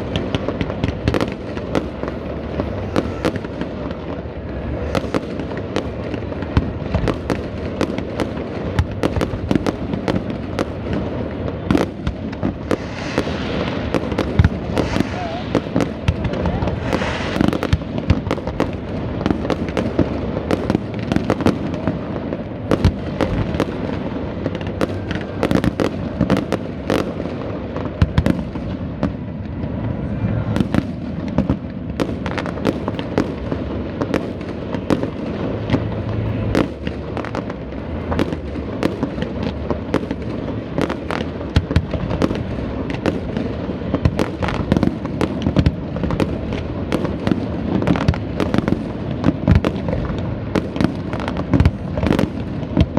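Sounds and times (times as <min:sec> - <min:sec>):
steady low rumble: 0:00.0 - 0:43.9
fireworks bangs and crackles: 0:00.0 - 0:52.9.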